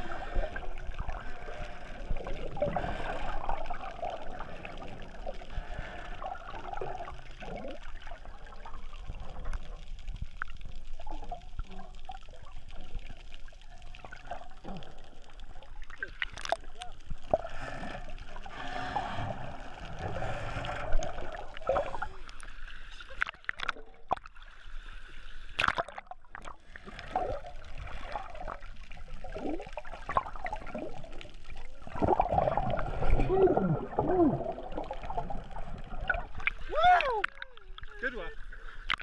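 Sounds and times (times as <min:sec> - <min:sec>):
underwater gurgling: 0:00.0 - 0:39.0.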